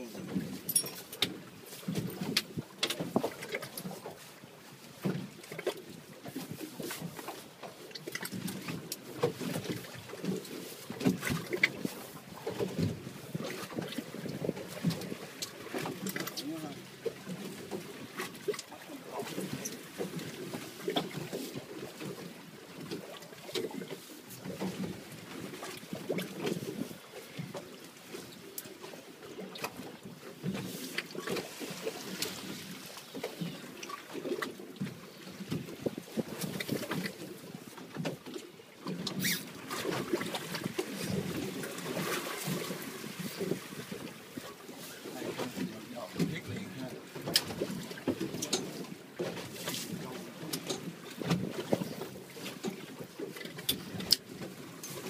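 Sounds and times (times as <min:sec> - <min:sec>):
knocks and splashes: 0:00.0 - 0:55.0
water lapping against boat hull: 0:00.0 - 0:55.0.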